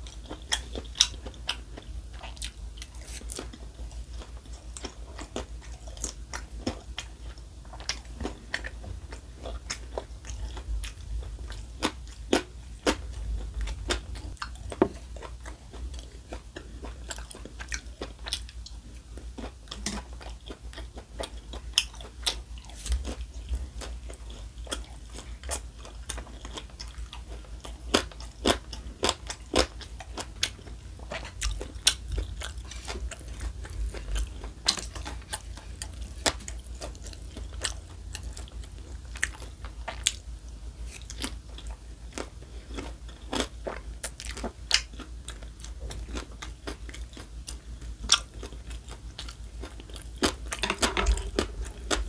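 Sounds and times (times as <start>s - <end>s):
person chewing crunchy food: 0.0s - 52.0s.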